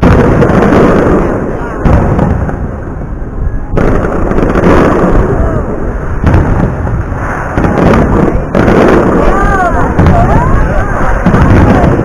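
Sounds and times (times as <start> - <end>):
fireworks bangs: 0.0 - 12.0
fireworks rumble: 0.0 - 12.0.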